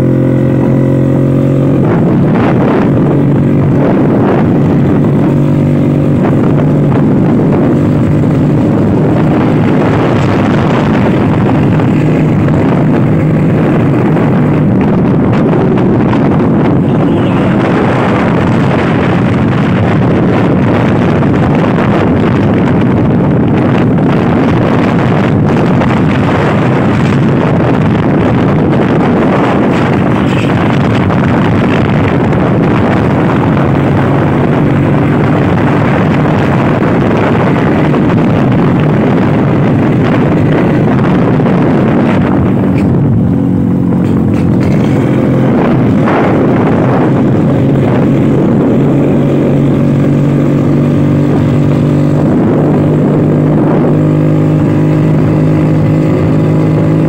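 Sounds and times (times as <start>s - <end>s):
scooter engine running: 0.0s - 57.0s
wind noise on microphone: 0.0s - 57.0s.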